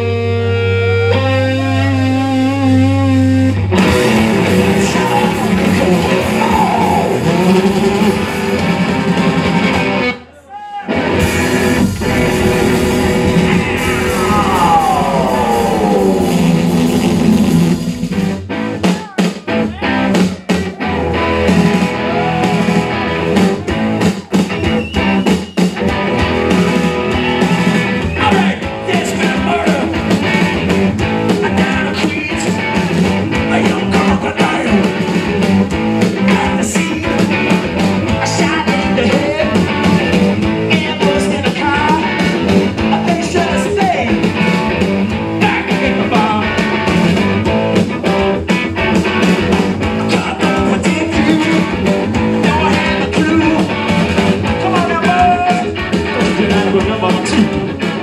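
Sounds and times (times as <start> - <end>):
electric guitars: 0.0 - 10.3, 10.9 - 58.0
steady drum beat: 3.8 - 10.0, 11.0 - 58.0.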